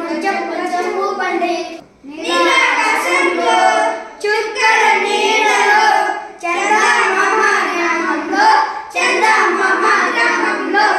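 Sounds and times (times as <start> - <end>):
boys singing together: 0.0 - 10.9.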